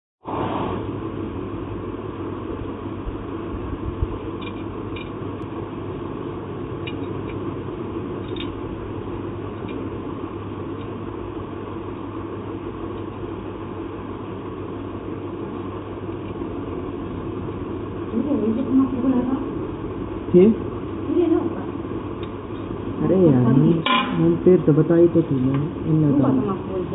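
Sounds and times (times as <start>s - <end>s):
low rumble with hum: 0.2s - 26.9s.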